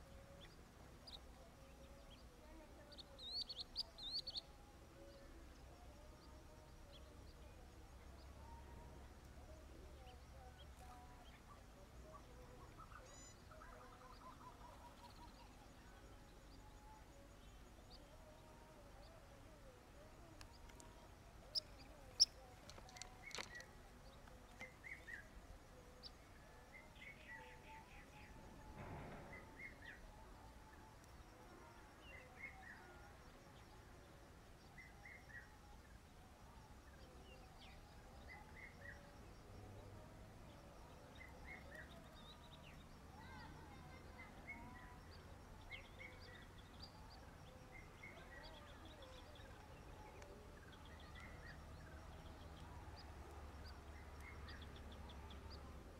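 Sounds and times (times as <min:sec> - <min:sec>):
faint bird chirps: 0:00.0 - 0:55.9.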